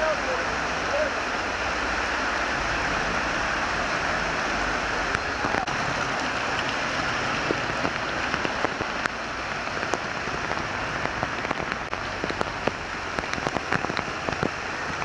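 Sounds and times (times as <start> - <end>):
heavy rain on hard surface: 0.0 - 15.0.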